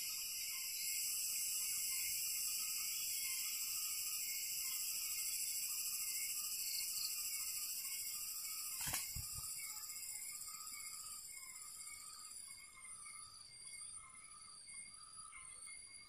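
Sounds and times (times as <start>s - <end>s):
shrill insect chorus: 0.0s - 16.0s.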